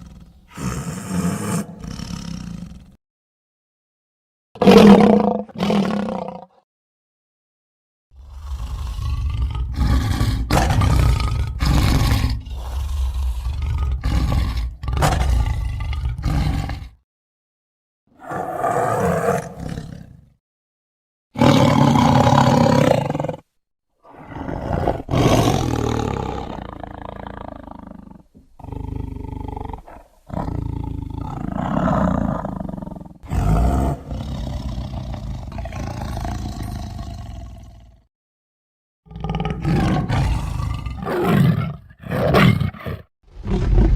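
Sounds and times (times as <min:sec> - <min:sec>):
tiger roaring and growling: 0:00.0 - 0:03.0, 0:04.6 - 0:06.6, 0:08.2 - 0:17.0, 0:18.1 - 0:20.2, 0:21.4 - 0:38.1, 0:39.1 - 0:43.9.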